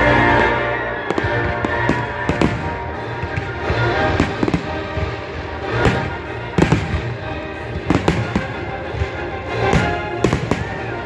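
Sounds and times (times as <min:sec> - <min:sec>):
music playing: 0:00.0 - 0:11.0.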